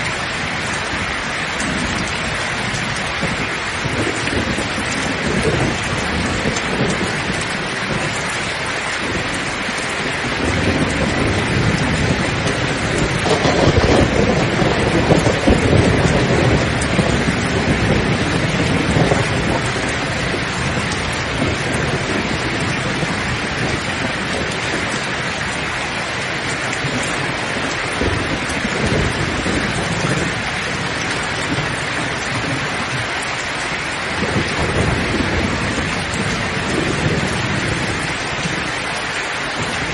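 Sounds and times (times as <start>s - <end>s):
rolling thunder: 0.0s - 33.1s, 34.0s - 38.9s
heavy rain: 0.0s - 39.9s.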